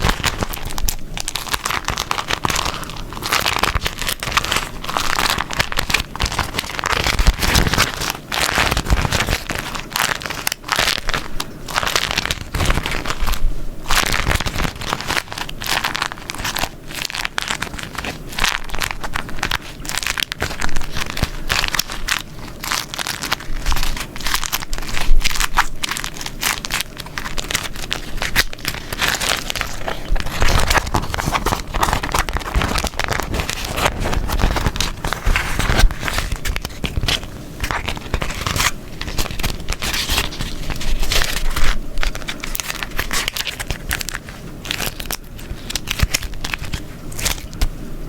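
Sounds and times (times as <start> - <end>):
wax food wrap crinkling: 0.0 - 47.8.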